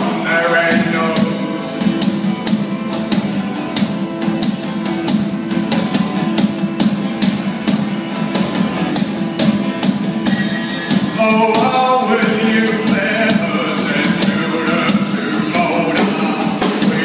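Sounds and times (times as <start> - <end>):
steady drumbeat: 0.0 - 17.0
strummed guitar: 0.0 - 17.0.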